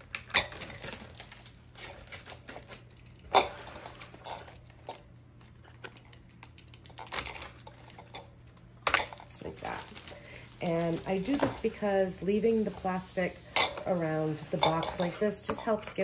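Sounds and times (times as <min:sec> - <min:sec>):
shrink wrap rustling and crinkling: 0:00.0 - 0:15.8.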